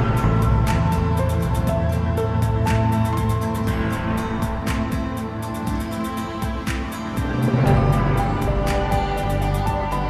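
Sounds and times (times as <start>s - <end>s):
high percussion ticks: 0.0s - 10.0s
instrumental background music: 0.0s - 10.0s.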